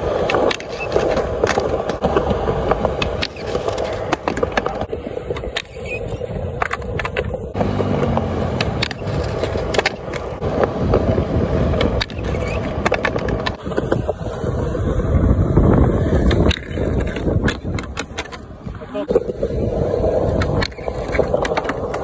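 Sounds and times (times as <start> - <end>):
skateboard clattering on ground: 0.0 - 14.4, 15.9 - 22.0
skateboard clacks: 0.0 - 22.0
skateboard scraping concrete ledge: 0.0 - 22.0
skateboard wheels rolling on concrete: 0.0 - 22.0.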